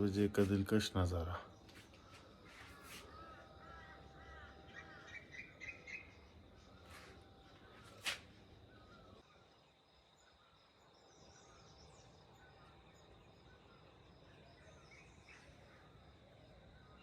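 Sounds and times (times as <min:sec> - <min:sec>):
distant bird chirps: 0:00.0 - 0:17.0.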